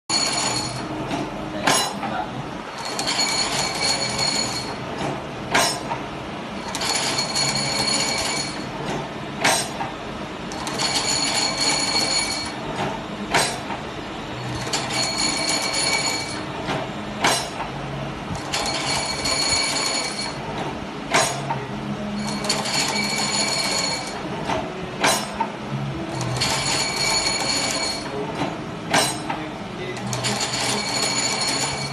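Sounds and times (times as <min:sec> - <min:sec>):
sharp machine clack: 0:00.1 - 0:02.1, 0:02.7 - 0:09.9, 0:10.5 - 0:13.8, 0:14.4 - 0:17.7, 0:18.3 - 0:25.5, 0:26.1 - 0:31.9
machine whine: 0:00.1 - 0:31.9.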